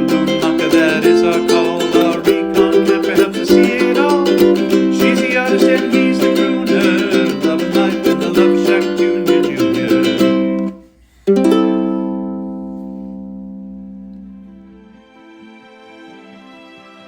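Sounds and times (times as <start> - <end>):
ukulele music with steady beat: 0.0 - 16.1.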